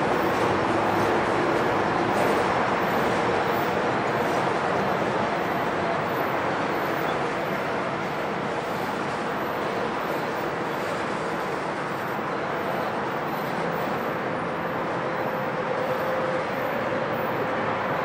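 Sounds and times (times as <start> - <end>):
train wheels rolling on track: 0.0 - 18.0.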